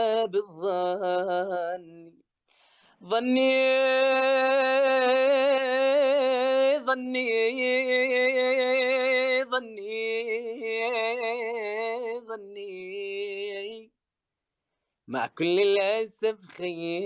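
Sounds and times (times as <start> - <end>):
man singing unaccompanied: 0.0 - 2.3, 3.0 - 14.0, 15.0 - 17.0.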